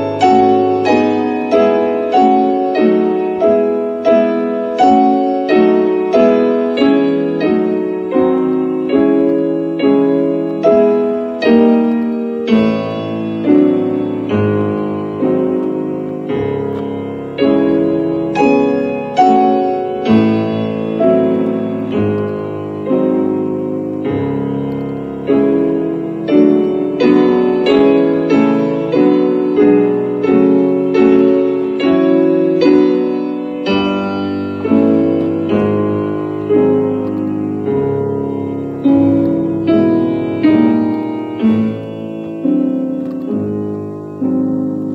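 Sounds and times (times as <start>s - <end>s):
piano chords: 0.0s - 44.9s.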